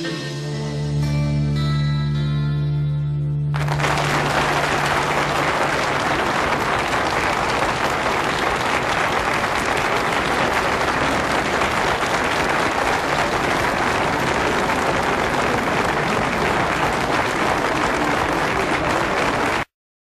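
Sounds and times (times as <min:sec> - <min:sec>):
studio audience applauding: 0:03.5 - 0:19.7.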